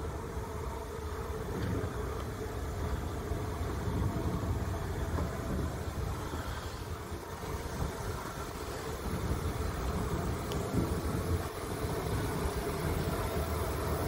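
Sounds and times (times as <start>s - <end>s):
steam locomotive low rumble: 0.0s - 14.0s.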